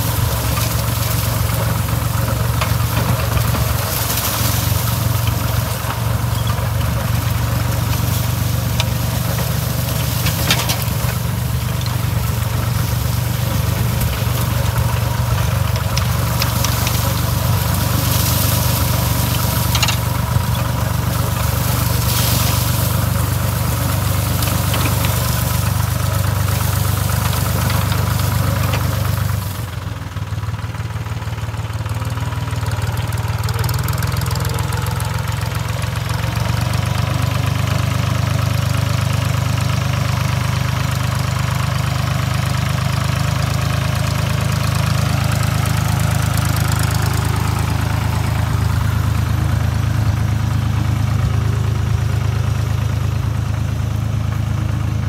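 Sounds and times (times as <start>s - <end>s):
tines churning soil hiss: 0.0s - 55.0s
tractor diesel engine running: 0.0s - 55.0s.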